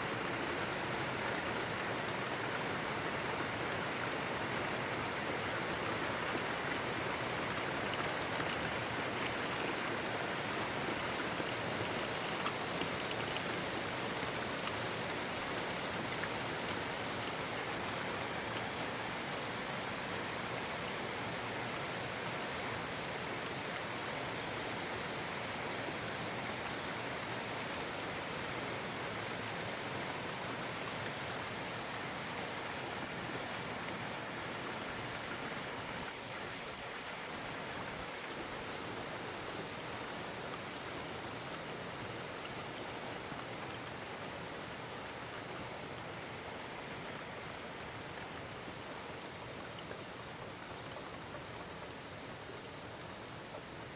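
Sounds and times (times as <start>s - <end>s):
very heavy rain: 0.0s - 53.9s.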